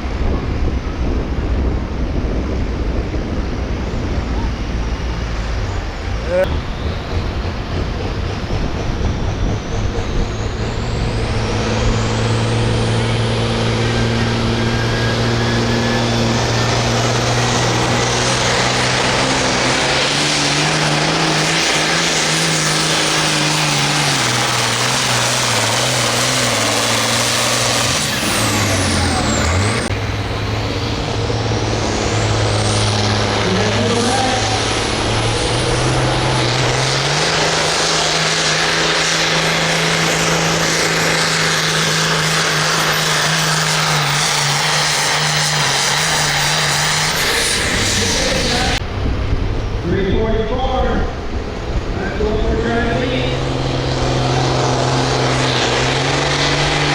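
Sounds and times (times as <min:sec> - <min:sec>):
tractor diesel engine under load: 0:00.0 - 0:56.9.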